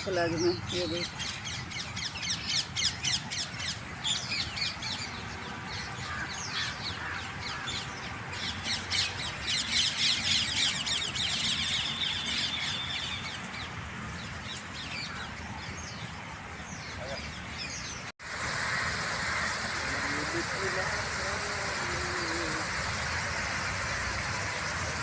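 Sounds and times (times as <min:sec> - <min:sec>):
birds chorus chirping: 0:00.0 - 0:25.0.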